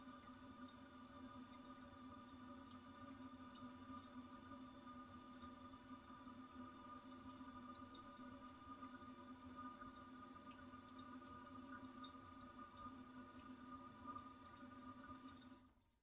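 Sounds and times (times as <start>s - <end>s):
toilet cistern refilling: 0.0s - 16.0s.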